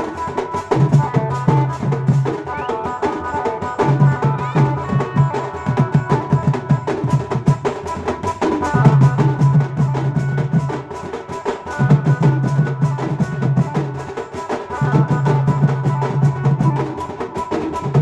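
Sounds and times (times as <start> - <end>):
folk drums playing fast rhythm: 0.0 - 18.0
keyboard: 0.0 - 18.0.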